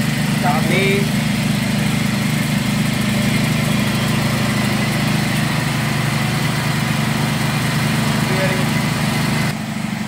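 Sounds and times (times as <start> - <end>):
motor-driven grinder running: 0.0 - 9.6.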